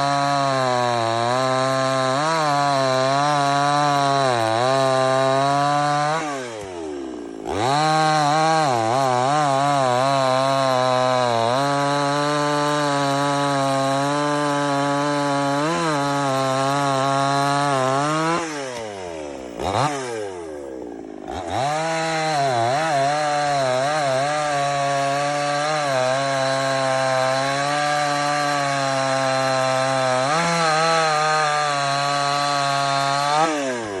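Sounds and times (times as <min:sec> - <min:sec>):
chainsaw running at high revs: 0:00.0 - 0:34.0.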